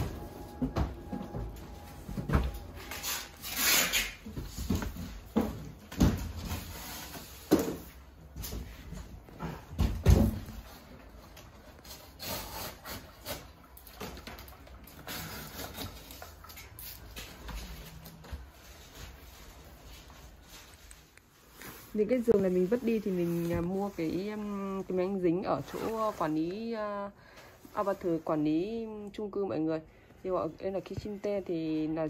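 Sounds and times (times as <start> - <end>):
rubbing and rustling of packing: 1.2 - 9.3, 10.4 - 28.8.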